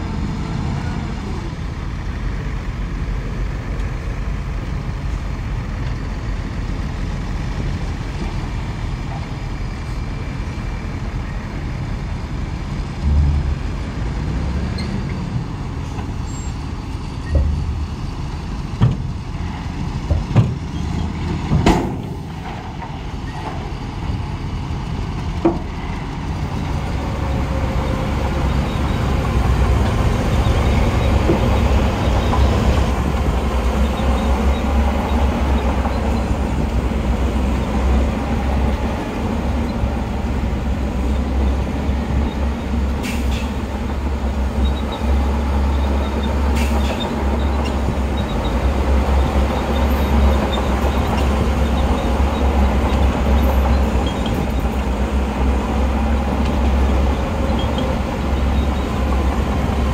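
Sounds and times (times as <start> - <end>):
diesel engine rumble: 0.0 - 59.9.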